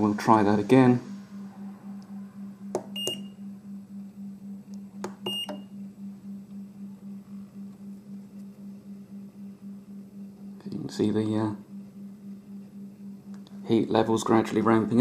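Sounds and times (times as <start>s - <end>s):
pulsing electrical hum: 0.0s - 15.0s.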